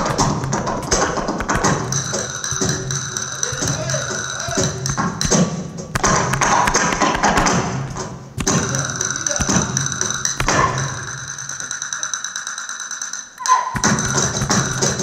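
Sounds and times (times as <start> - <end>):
castanets rattling: 0.0 - 15.0.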